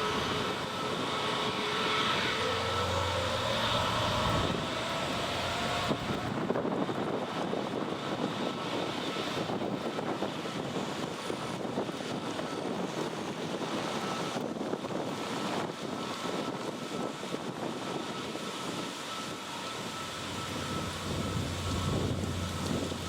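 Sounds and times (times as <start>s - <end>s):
jet engines roaring on takeoff: 0.0s - 23.0s.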